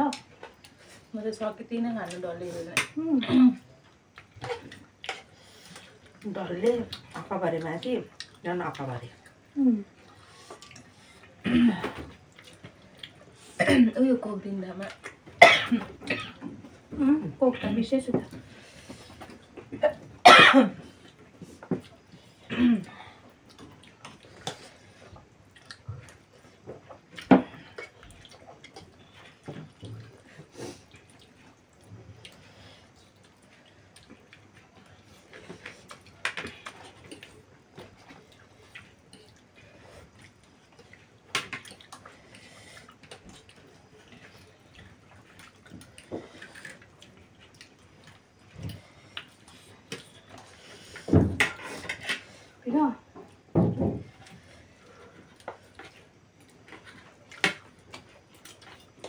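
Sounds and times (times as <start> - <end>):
soft chewing: 0.1 - 1.4, 2.0 - 13.6, 20.8 - 59.0.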